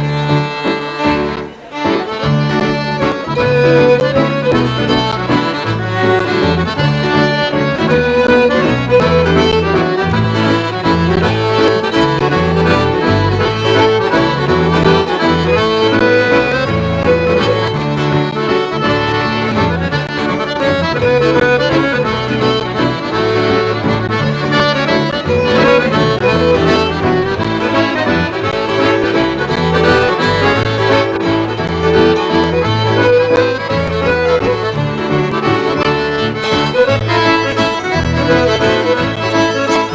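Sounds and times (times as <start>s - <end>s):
accordion: 0.0s - 39.9s
fiddle: 0.0s - 39.9s
guitar and bass accompaniment: 0.0s - 39.9s.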